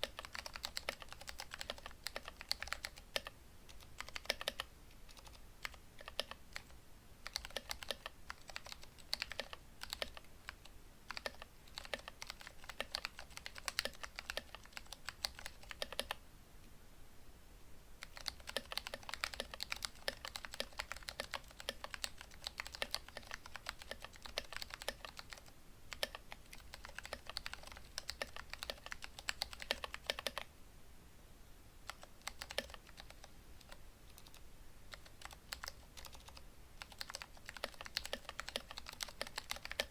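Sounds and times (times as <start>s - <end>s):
mechanical keyboard typing: 0.0s - 16.2s, 18.0s - 30.5s, 31.9s - 39.9s.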